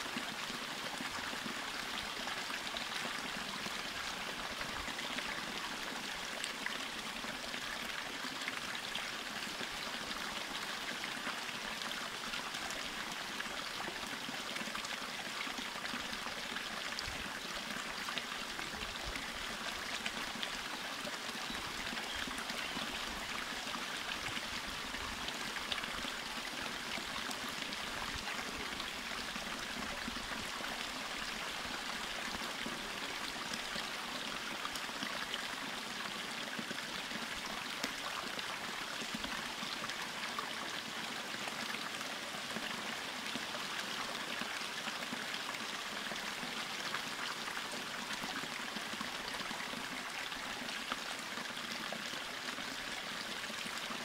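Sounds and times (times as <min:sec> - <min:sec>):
water burbling over rocks: 0:00.0 - 0:54.0.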